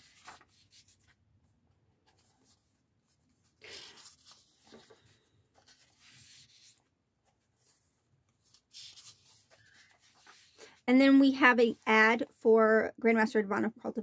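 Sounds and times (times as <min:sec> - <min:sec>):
paper rustling of book pages: 0:00.0 - 0:11.9.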